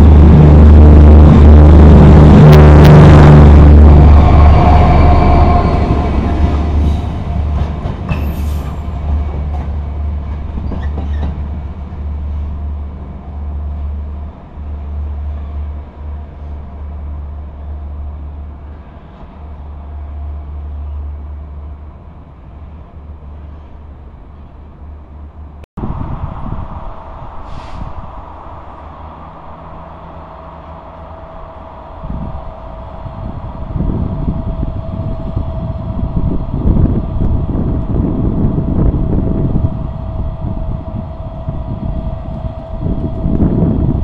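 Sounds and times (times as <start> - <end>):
diesel locomotive engine drone: 0.0 - 44.0.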